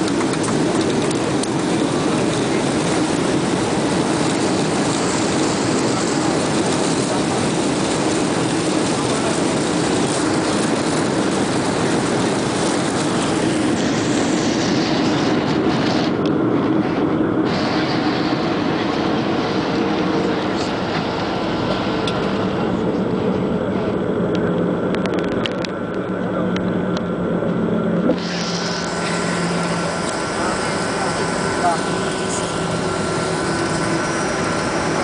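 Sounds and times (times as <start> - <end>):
aircraft wheels on runway: 0.0 - 35.0
jet engines rumbling: 0.0 - 35.0.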